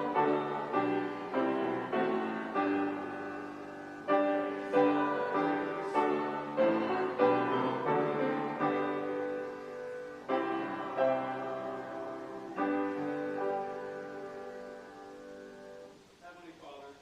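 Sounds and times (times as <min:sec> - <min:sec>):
gentle piano chords: 0:00.0 - 0:16.3.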